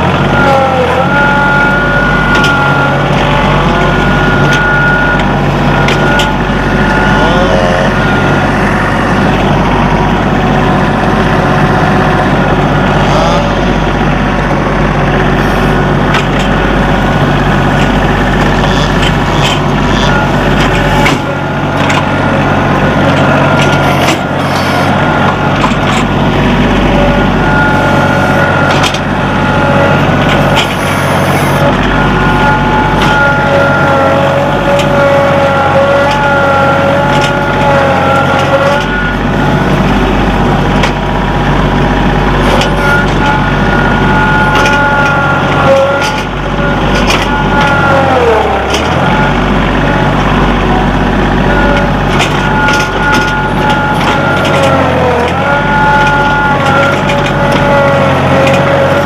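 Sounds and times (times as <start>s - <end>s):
brief wavering whines: 0.0s - 59.0s
tractor engine droning: 0.0s - 59.0s.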